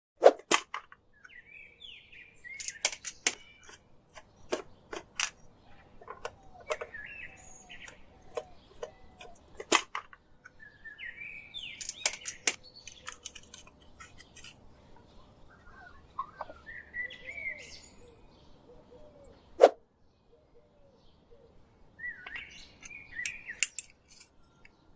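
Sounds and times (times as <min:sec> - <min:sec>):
birds chirping: 0:00.9 - 0:24.9.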